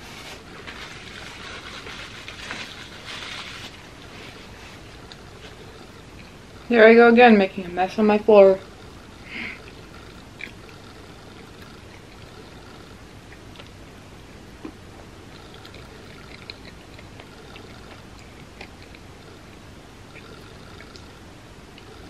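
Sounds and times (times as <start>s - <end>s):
background hiss: 0.0s - 22.0s
person chewing food: 0.6s - 6.7s, 8.6s - 22.0s.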